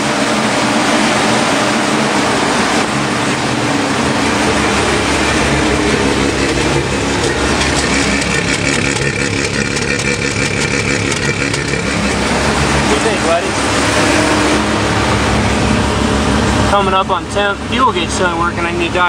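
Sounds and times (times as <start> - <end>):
rotary engine idling: 0.0 - 19.0.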